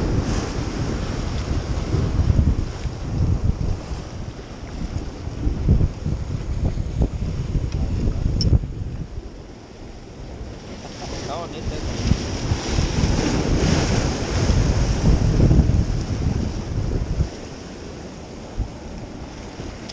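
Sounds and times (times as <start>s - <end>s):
waves breaking over rocks: 0.0s - 19.9s
wind buffeting microphone: 0.0s - 19.9s.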